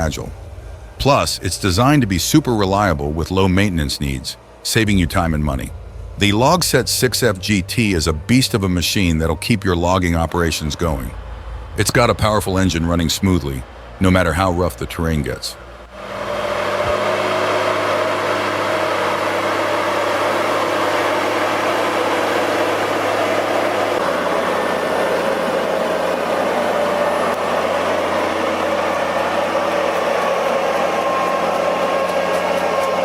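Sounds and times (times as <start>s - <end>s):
heavy machine engine humming: 0.0s - 33.0s.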